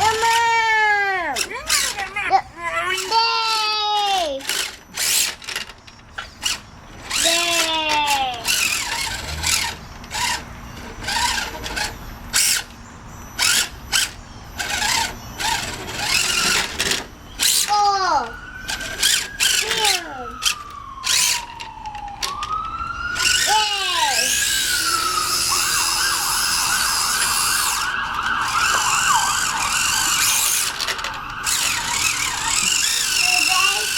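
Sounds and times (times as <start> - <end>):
toy truck motor whining in bursts: 0.0 - 33.9
siren wailing: 6.3 - 33.9.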